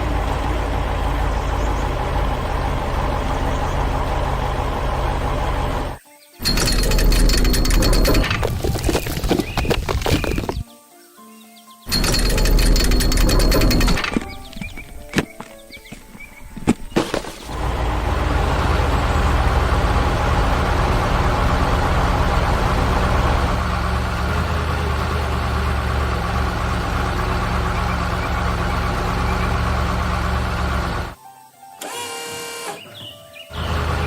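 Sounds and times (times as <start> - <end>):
heavy vehicle engine running: 0.0 - 10.6, 11.9 - 31.2, 33.5 - 34.0.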